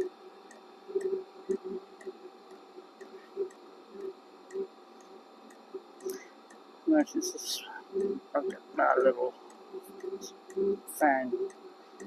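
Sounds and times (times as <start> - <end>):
heater humming with light ticks: 0.0 - 12.0.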